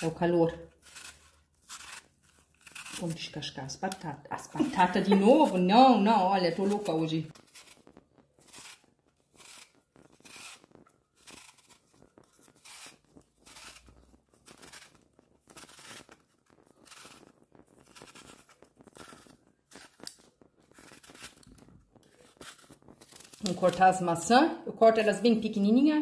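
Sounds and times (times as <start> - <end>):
peeler scraping apple skin: 0.0 - 25.6.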